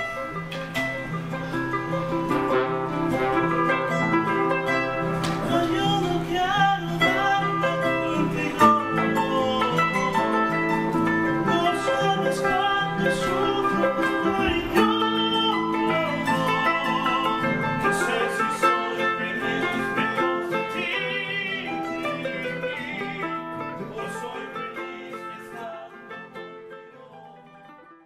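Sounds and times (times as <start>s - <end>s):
acoustic band playing: 0.0s - 28.0s
plucked guitar strings: 0.0s - 28.0s.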